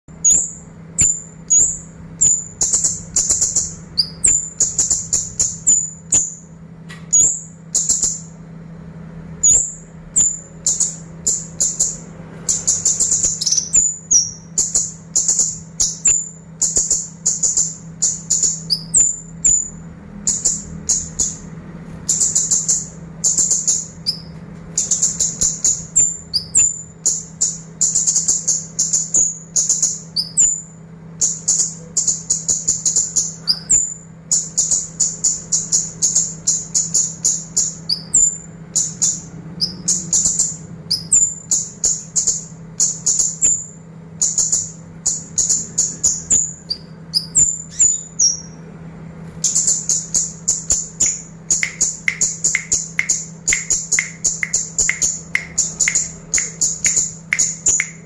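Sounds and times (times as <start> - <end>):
songbird chirping: 0.1 - 48.7, 49.4 - 58.0.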